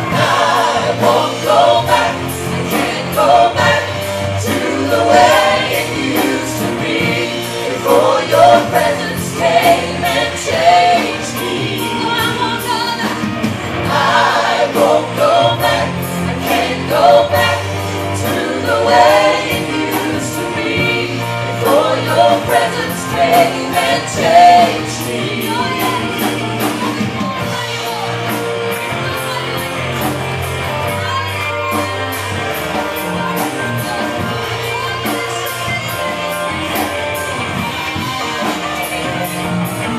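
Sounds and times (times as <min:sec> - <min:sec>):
voices singing together: 0:00.0 - 0:39.9
worship band playing: 0:00.0 - 0:39.9.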